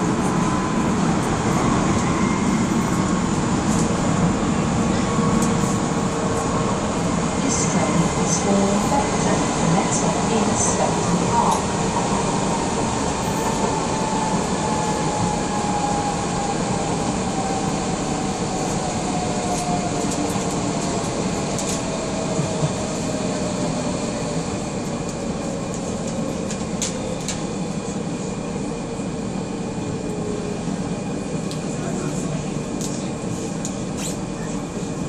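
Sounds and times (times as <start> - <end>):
train rumble inside carriage: 0.0 - 35.0.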